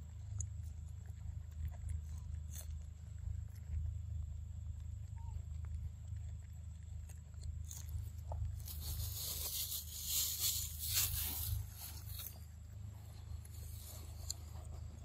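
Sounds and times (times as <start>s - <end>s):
monkey crunching corn: 0.0s - 15.0s
steady low rumble: 0.0s - 15.0s.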